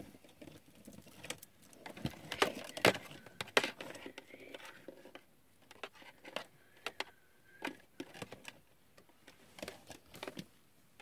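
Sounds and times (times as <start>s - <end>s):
hands handling plastic figure: 0.1s - 10.5s.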